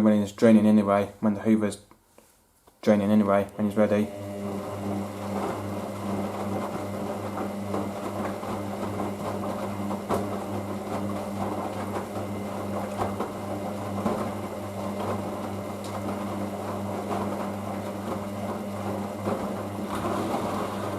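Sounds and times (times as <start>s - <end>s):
drain pump humming: 3.5s - 20.9s.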